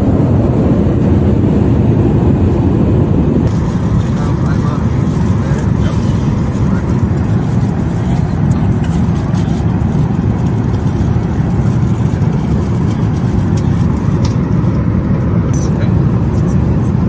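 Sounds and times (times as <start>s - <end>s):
airplane cabin noise: 0.0s - 17.0s.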